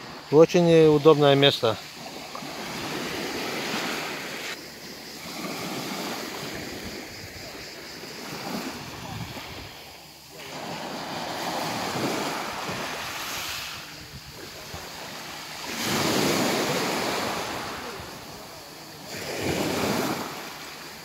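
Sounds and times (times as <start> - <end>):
small waves breaking on a beach: 0.0 - 21.0.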